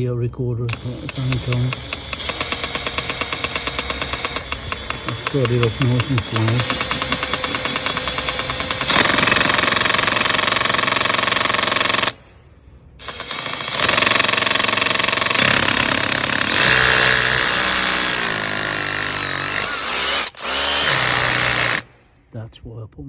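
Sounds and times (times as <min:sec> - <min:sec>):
cordless drill boring: 0:00.7 - 0:12.2, 0:13.0 - 0:21.9.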